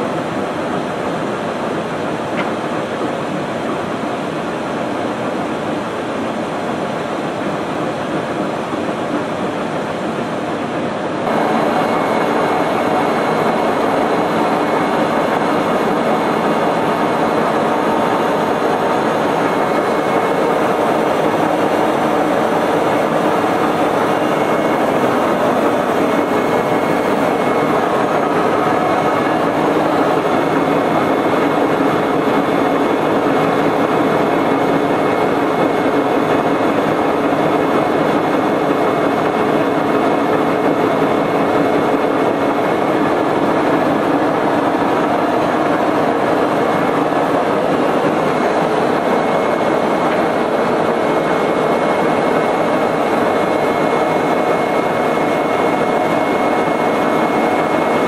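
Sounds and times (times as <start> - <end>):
machine drone: 0.0 - 58.0
thin high whine: 0.0 - 58.0.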